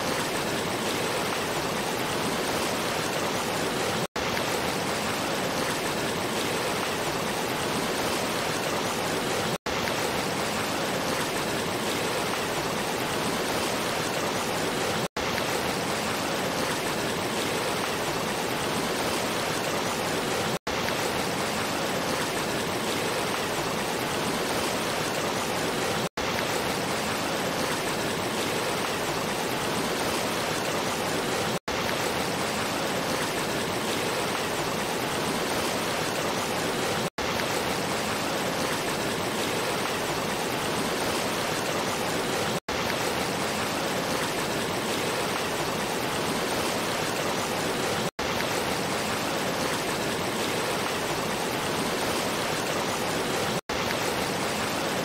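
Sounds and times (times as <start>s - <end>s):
rushing churning water: 0.0s - 55.0s.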